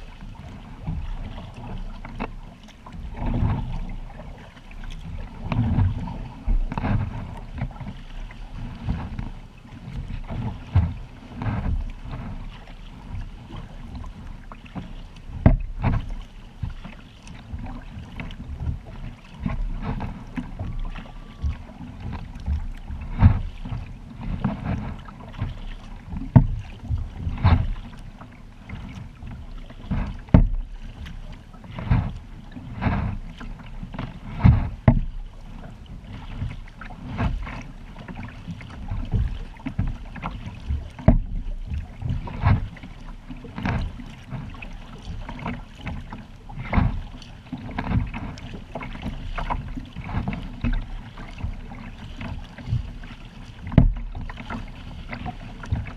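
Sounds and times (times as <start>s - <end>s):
water splashing around kayak: 0.0s - 55.9s
wind on microphone: 2.9s - 55.9s.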